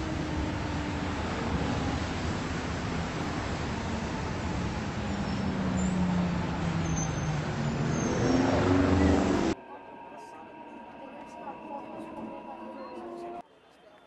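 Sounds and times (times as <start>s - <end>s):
vehicle engine drone: 0.0s - 13.4s.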